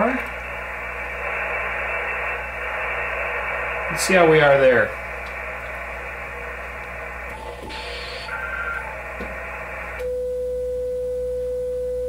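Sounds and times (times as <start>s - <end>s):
radio static hissing: 0.0s - 10.1s.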